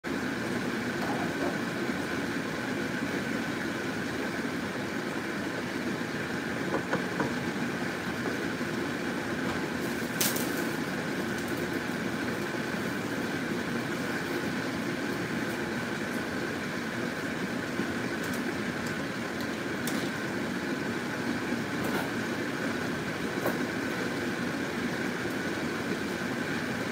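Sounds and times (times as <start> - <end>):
range hood fan whirring: 0.0 - 26.9
broth simmering: 0.1 - 26.9.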